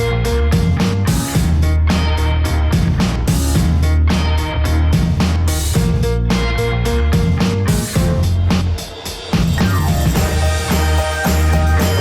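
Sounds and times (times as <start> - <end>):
upbeat band music: 0.0 - 12.0.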